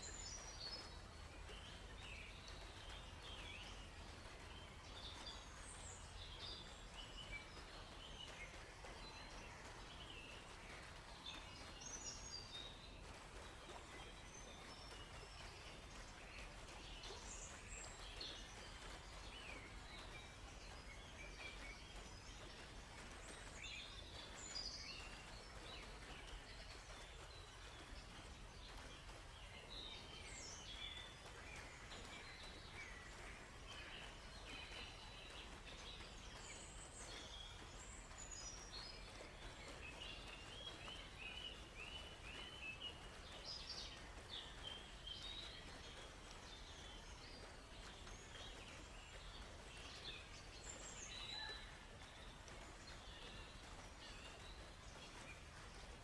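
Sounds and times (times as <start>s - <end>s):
faint steady hiss: 0.0s - 56.0s
songbirds chirping and trilling: 0.0s - 56.0s.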